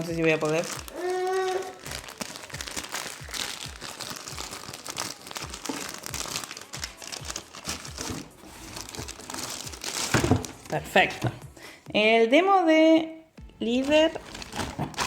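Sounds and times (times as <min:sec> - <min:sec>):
packaging wrapper crinkling: 0:00.0 - 0:10.9, 0:13.8 - 0:15.0.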